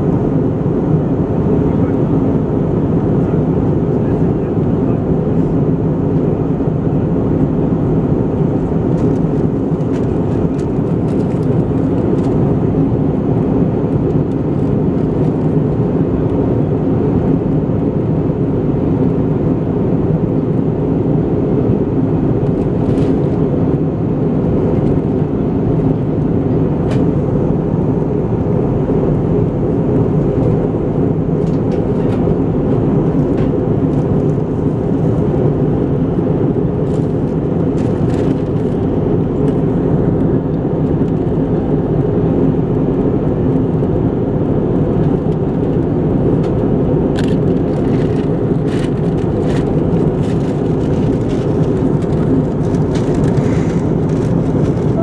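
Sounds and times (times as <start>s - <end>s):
airliner cabin rush and engine drone: 0.0s - 55.0s.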